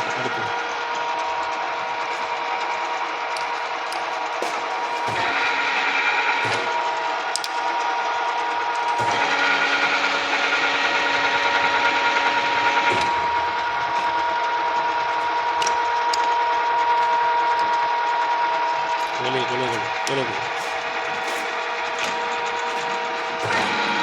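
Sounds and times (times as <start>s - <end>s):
milling machine gear whine: 0.0s - 24.0s.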